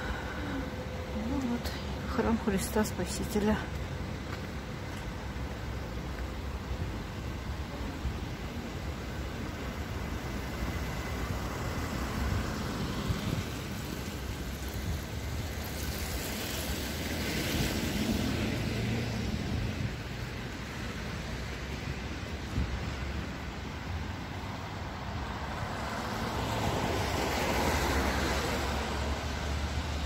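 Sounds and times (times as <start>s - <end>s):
tyres hissing on wet road: 0.0s - 2.8s, 3.7s - 30.0s
city street traffic: 0.0s - 30.0s.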